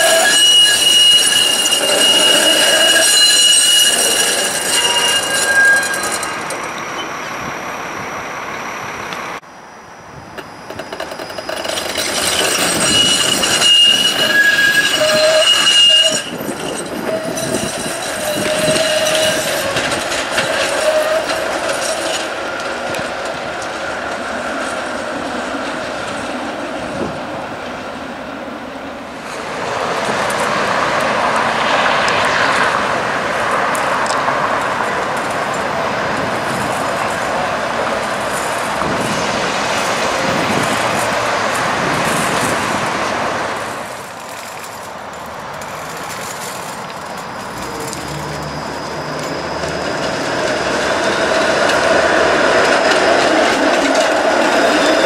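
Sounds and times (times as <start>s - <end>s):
street traffic: 0.0s - 55.0s
streetcar and cars approaching: 0.0s - 55.0s
streetcar wheels squealing: 0.0s - 55.0s.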